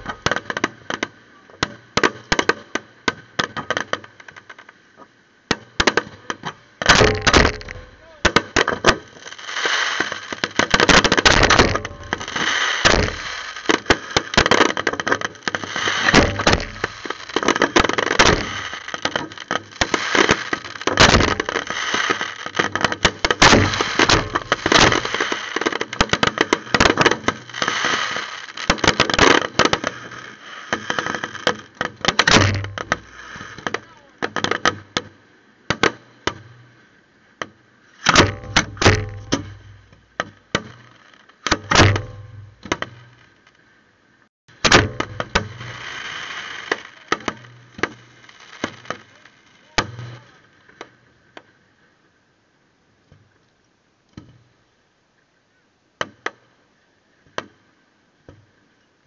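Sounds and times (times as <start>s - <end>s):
fireworks bursting and crackling: 0.0s - 4.8s, 5.5s - 36.6s, 37.8s - 43.4s, 44.5s - 51.1s.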